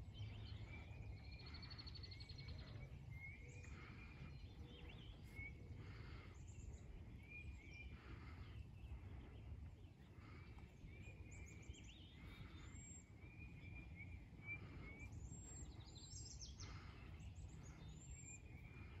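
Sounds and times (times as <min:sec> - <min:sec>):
songbirds chirping faintly: 0:00.0 - 0:19.0.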